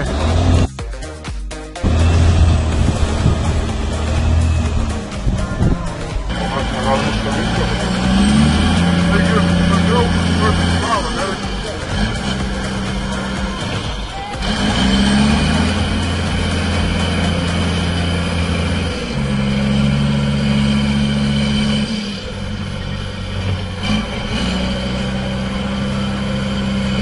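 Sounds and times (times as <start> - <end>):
heavy machinery engines humming: 0.0 - 27.0.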